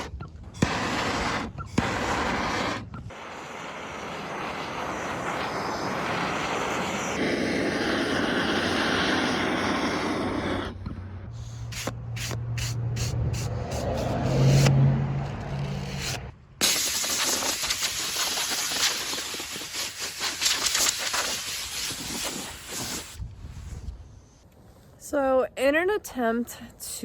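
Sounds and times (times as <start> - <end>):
torch and sander hiss: 0.0 - 14.7, 15.5 - 23.9.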